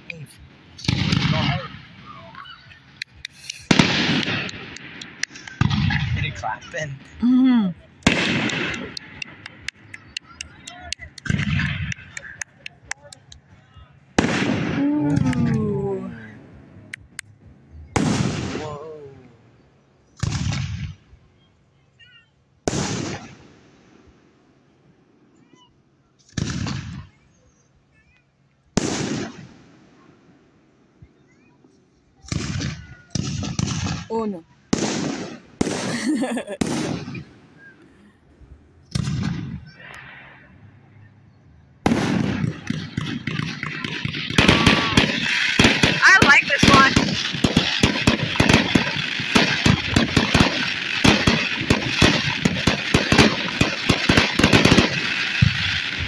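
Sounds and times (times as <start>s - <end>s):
firework bangs: 0.0s - 19.1s, 20.0s - 21.2s, 22.6s - 24.4s, 26.2s - 27.6s, 28.7s - 30.8s, 32.1s - 38.1s, 38.7s - 56.0s.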